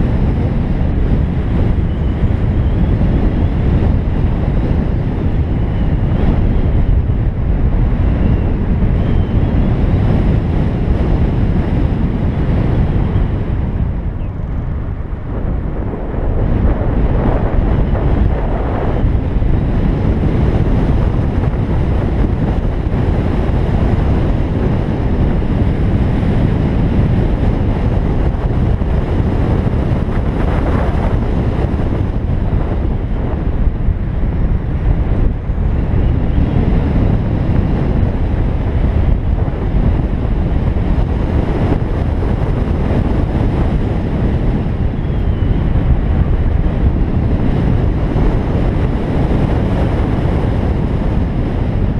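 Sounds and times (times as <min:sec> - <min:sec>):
car tyre and road noise: 0:00.0 - 0:51.9
wind on microphone: 0:00.0 - 0:51.9.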